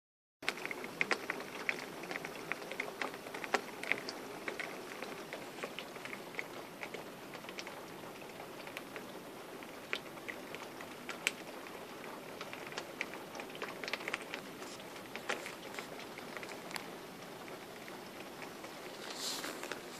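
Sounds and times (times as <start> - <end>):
rain hissing: 0.4 - 19.9
raindrops ticking: 0.4 - 19.9.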